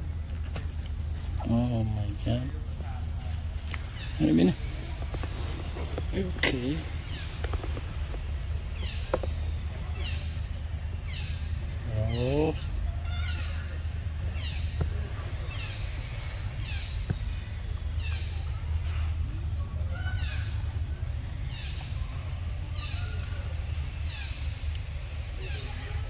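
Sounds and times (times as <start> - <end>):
high insect hum: 0.0 - 26.0.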